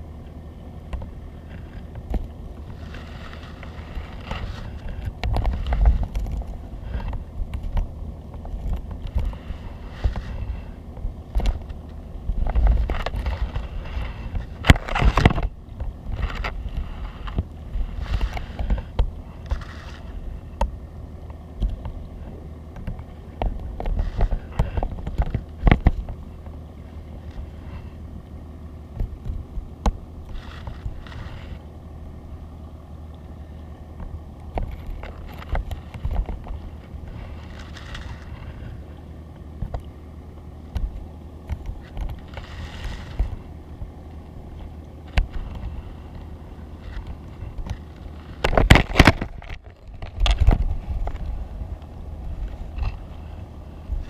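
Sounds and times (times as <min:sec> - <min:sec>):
underwater rumble: 0:00.0 - 0:54.0.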